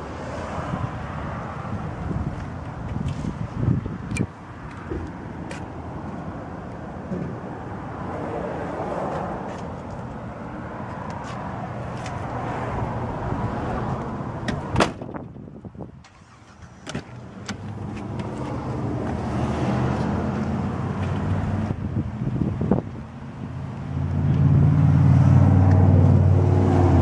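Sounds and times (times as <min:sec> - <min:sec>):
motor vehicle noise: 0:00.0 - 0:27.0.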